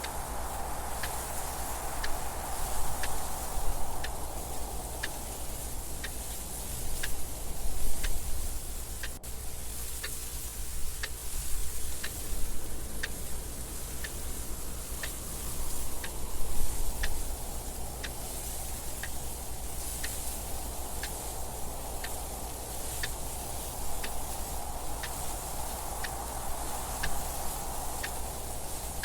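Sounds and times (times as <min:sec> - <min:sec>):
clock ticking: 0:00.0 - 0:29.0
wind noise: 0:00.0 - 0:29.0.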